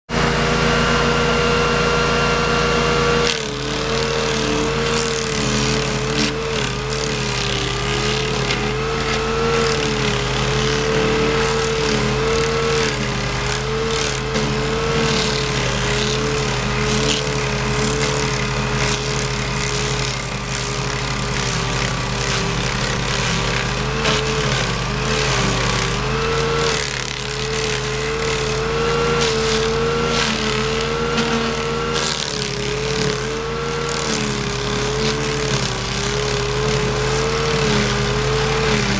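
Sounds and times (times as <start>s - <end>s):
cutter wheel grinding wood chips: 0.0s - 38.9s
stump grinder engine: 0.1s - 38.9s.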